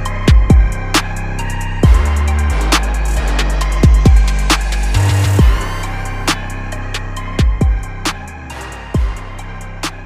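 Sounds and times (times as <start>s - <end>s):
hip hop beat: 0.0s - 10.0s.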